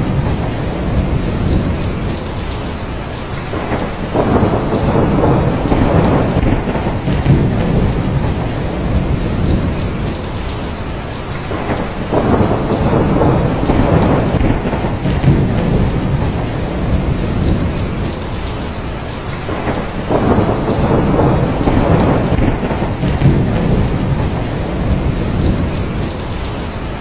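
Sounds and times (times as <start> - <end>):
deep rolling thunder: 0.0 - 27.0
heavy rain falling: 0.0 - 27.0.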